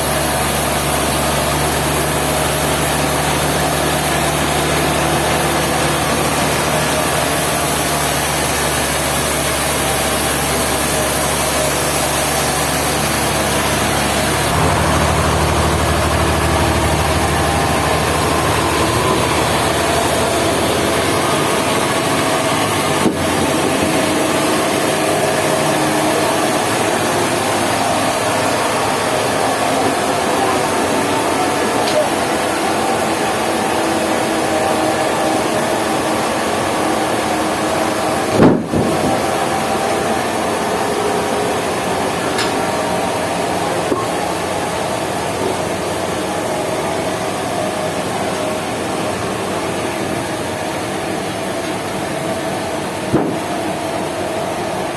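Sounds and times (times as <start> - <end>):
sawmill machinery hum: 0.0 - 54.9.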